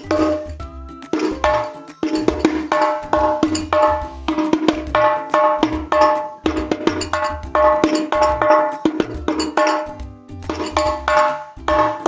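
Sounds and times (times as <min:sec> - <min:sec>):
frame drum played by hand: 0:00.0 - 0:12.0.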